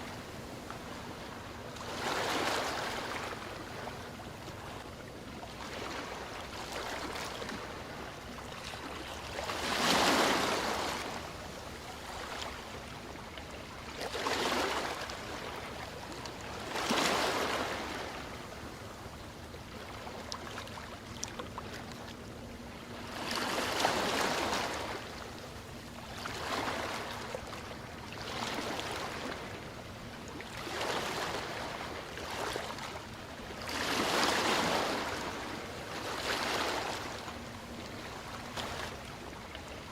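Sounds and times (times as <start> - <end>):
ocean waves breaking: 0.0 - 4.8, 5.5 - 12.9, 13.7 - 18.8, 22.5 - 25.3, 26.0 - 39.9.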